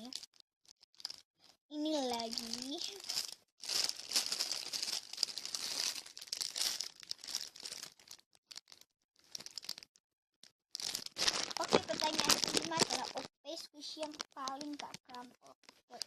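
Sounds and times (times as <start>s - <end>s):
plastic packaging crinkling: 0.8s - 9.9s, 10.7s - 16.0s.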